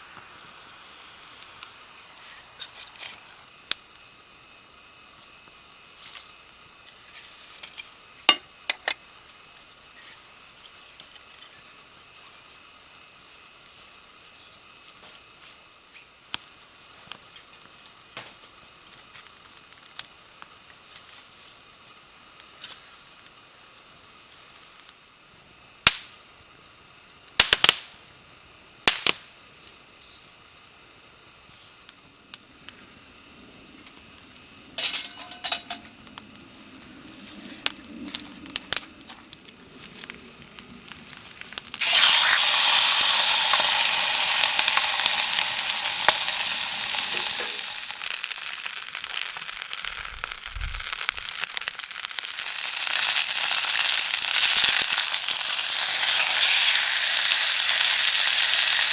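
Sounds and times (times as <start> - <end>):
food sizzling in a frying pan: 0.0 - 28.9, 29.8 - 58.9.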